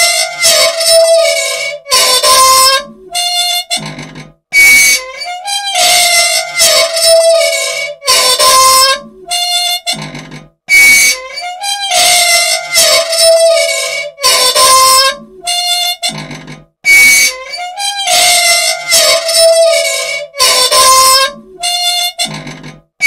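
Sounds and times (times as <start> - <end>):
unoiled machine squealing: 0.0 - 22.8.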